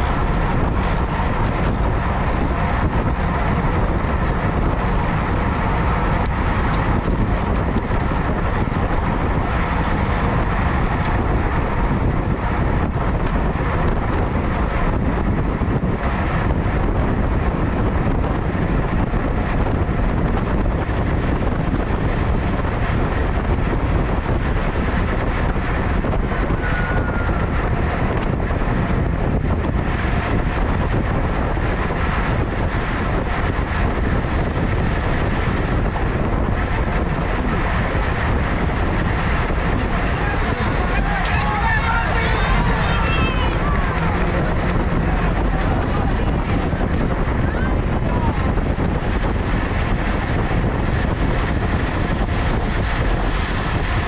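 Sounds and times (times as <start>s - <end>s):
bicycle tyre road noise: 0.0s - 54.0s
wind rushing over microphone: 0.0s - 54.0s.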